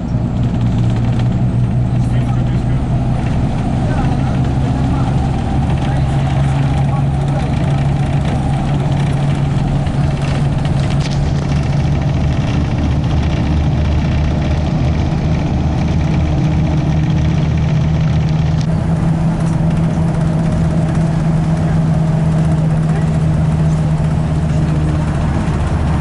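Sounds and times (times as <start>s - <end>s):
car engine humming: 0.0s - 26.0s
road and tyre noise: 0.0s - 26.0s.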